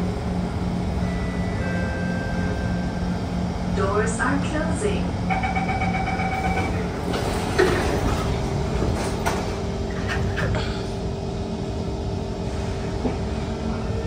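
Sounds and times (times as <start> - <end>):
train car humming: 0.0 - 14.0.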